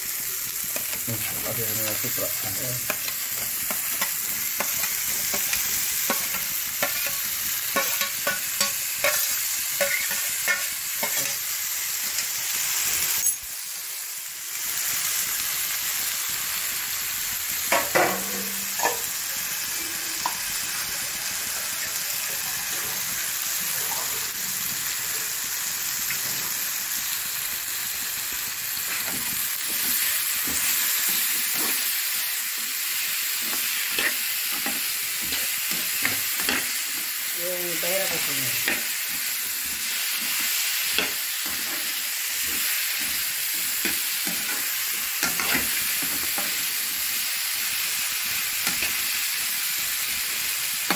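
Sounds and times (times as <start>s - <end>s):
potatoes sizzling in oil: 0.0s - 50.9s.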